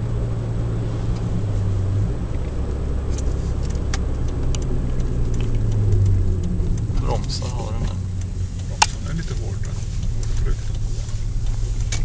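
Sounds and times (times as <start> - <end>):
car engine and road drone: 0.0 - 12.0
light rattling clicks: 2.3 - 12.0.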